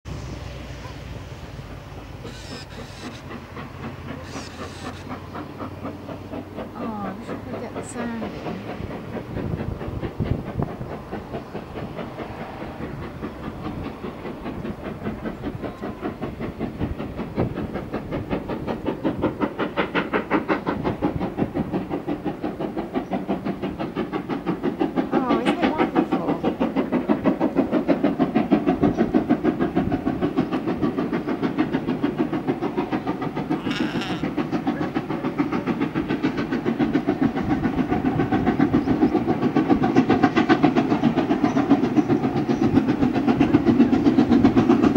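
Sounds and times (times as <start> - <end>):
steam locomotive chuffing: 0.1 - 44.9.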